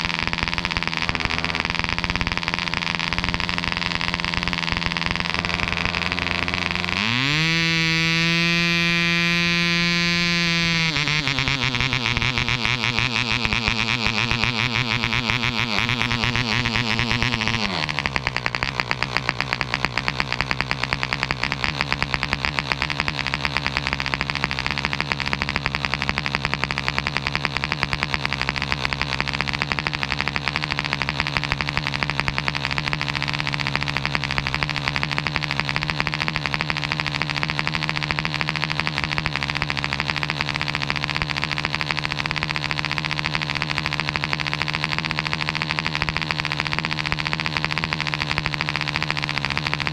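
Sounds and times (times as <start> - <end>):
model airplane engine running: 0.0 - 49.9.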